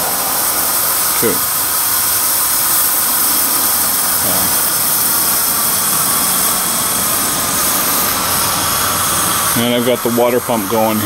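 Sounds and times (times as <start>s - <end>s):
steam hissing from safety valve: 0.0s - 11.0s.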